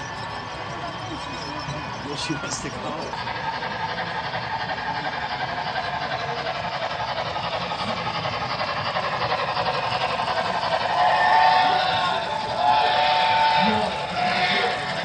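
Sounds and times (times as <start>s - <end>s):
model train hissing engine: 0.0s - 15.0s.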